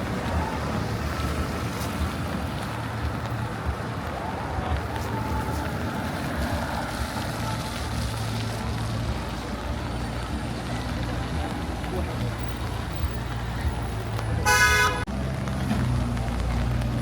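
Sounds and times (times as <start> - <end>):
low rumble of traffic: 0.0 - 17.0
rain hiss on wet street: 0.0 - 17.0.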